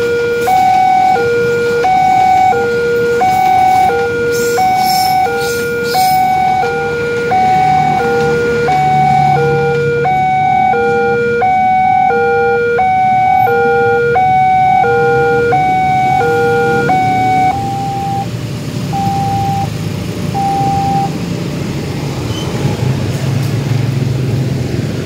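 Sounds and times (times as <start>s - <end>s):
two-tone crossing alarm: 0.0s - 21.2s
road traffic rumble: 0.0s - 25.0s.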